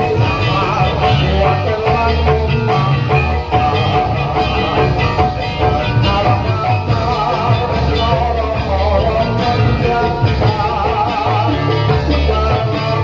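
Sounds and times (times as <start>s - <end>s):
heavy pulsing bass beat: 0.0s - 13.0s
live folk dance music: 0.0s - 13.0s
wavering melody line: 0.0s - 13.0s.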